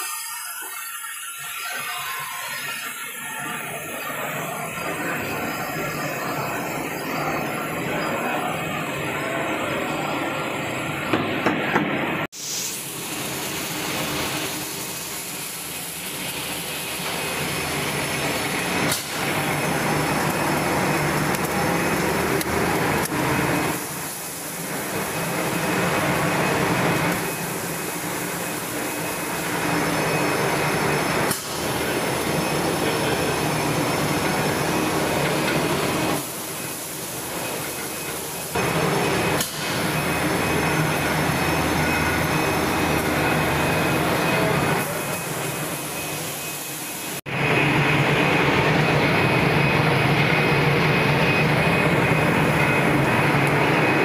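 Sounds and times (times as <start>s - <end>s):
machinery running with low hum: 1.5s - 54.0s.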